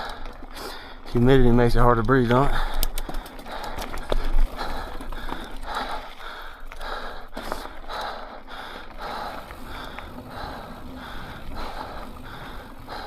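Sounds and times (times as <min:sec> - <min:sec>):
heavy rhythmic breathing: 0:00.0 - 0:01.2, 0:02.1 - 0:13.0
bike clicks and rattles: 0:00.0 - 0:13.0.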